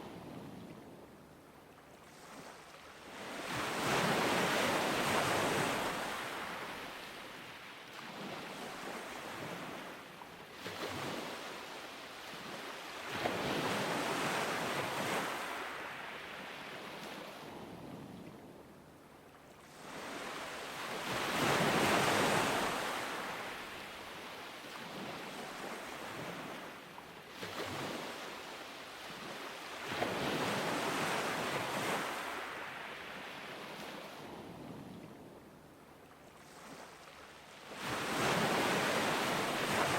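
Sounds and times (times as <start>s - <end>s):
ocean waves breaking on beach: 0.0s - 18.8s, 19.4s - 35.6s, 36.3s - 39.9s.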